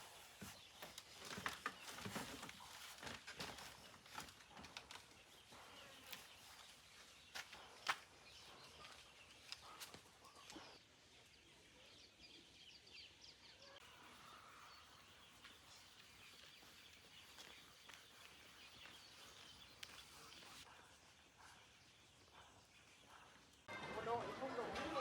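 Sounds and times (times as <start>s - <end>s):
faint bird chirps: 3.6s - 23.8s.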